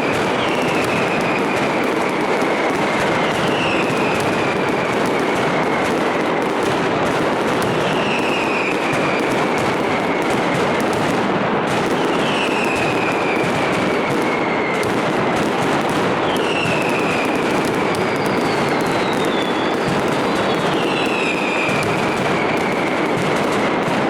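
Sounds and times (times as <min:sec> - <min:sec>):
whistling firework shrieking: 0:00.0 - 0:06.6, 0:07.4 - 0:10.9, 0:11.7 - 0:24.0
firecrackers crackling and banging: 0:00.0 - 0:24.0.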